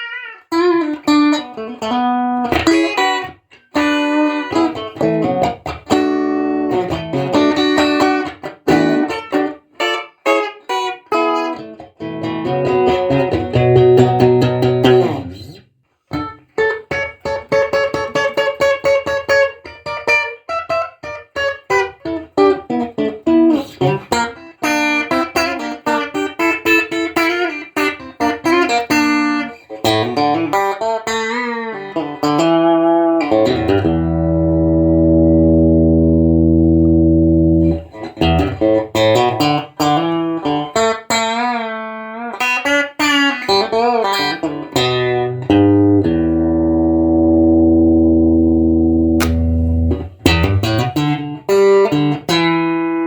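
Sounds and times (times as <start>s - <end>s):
clean electric guitar playing: 0.5s - 53.0s.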